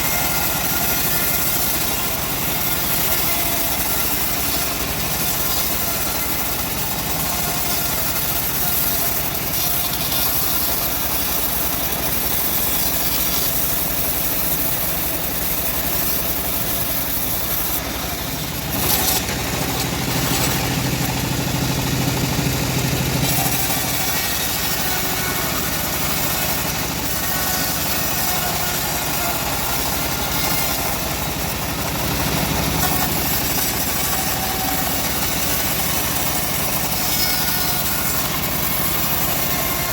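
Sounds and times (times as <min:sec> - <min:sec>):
sawmill sawing a log: 0:00.0 - 0:39.9.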